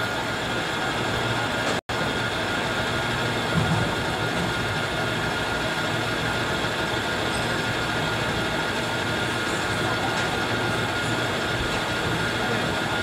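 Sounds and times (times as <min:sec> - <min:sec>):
metal lathe humming: 0:00.0 - 0:13.0
thin steady whine: 0:00.0 - 0:13.0.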